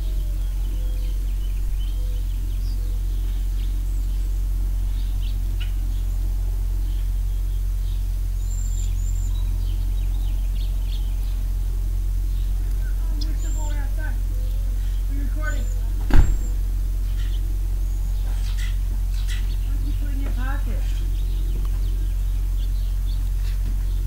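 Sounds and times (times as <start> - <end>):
low rumble: 0.0 - 24.0
small birds chirping: 0.0 - 24.0.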